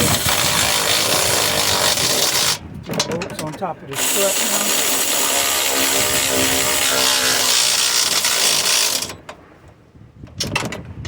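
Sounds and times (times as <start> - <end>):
power tool driving bolts: 0.0 - 9.3.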